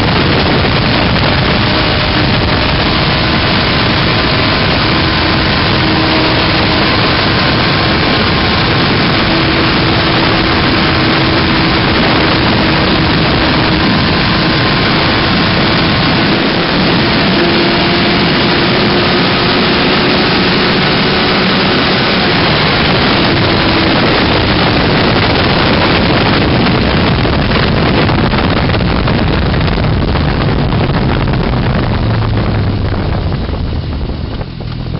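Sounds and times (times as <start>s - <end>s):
motorcycle engine at high revs: 0.0s - 34.9s
wind rushing on microphone: 0.0s - 34.9s.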